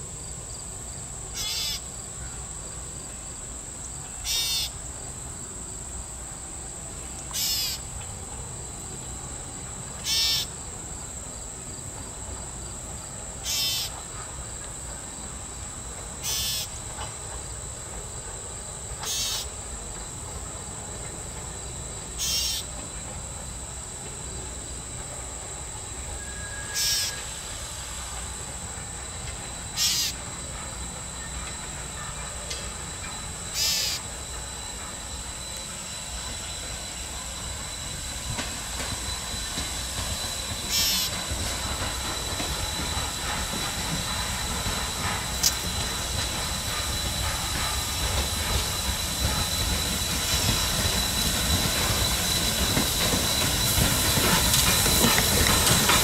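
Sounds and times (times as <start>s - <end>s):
insects droning: 0.0s - 56.0s
steam locomotive rumble: 0.0s - 56.0s
rasping insect call: 0.1s - 56.0s.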